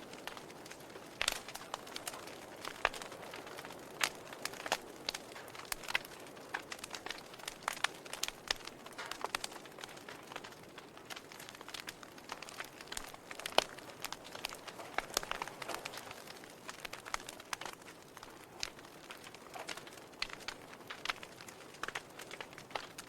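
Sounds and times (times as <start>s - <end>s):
soft fire hiss: 0.0s - 23.0s
wood fire crackling: 0.0s - 23.0s.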